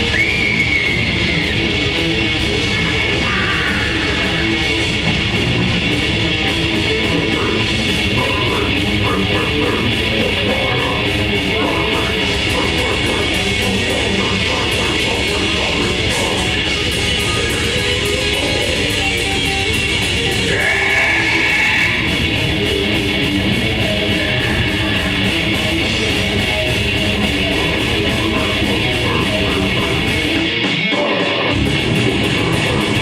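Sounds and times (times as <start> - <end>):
distorted electric guitars: 0.0 - 33.0
fast drumming: 0.0 - 33.0.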